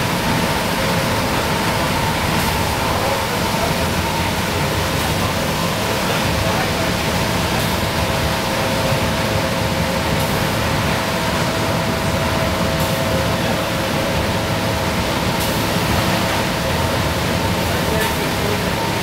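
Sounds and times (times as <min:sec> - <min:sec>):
bus diesel engine with whine: 0:00.0 - 0:19.0.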